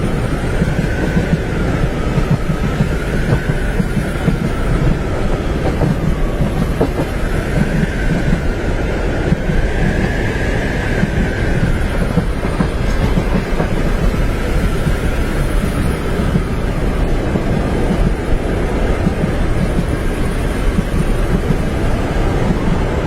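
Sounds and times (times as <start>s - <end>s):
train rumble: 0.0s - 23.0s
wheels clacking over rail joints: 0.0s - 23.0s.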